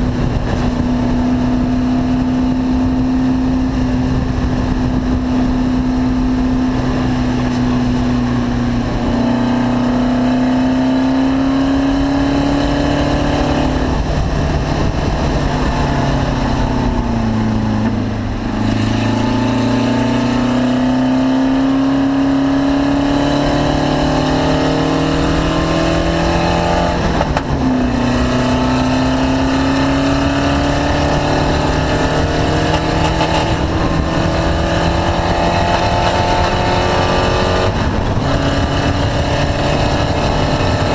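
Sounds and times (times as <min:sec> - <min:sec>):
race car engine shifting gears: 0:03.7 - 0:40.9.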